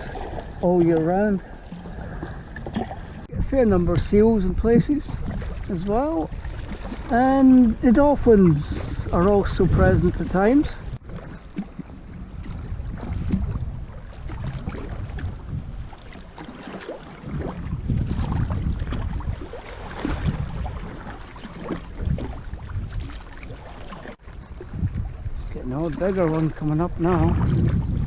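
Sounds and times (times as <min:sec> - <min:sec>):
water splashing around kayak: 0:00.0 - 0:28.0
wind rumble on microphone: 0:00.0 - 0:28.0.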